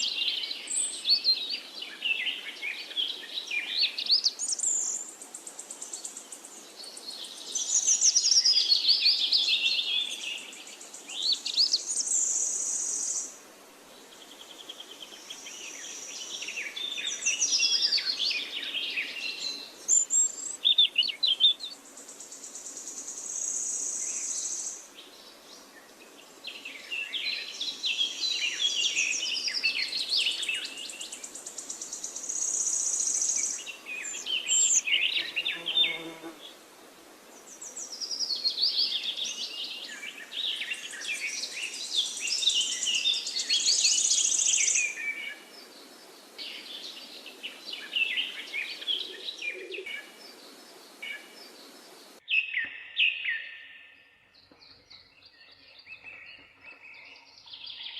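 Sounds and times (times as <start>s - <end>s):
forest birds singing: 0.0s - 57.9s.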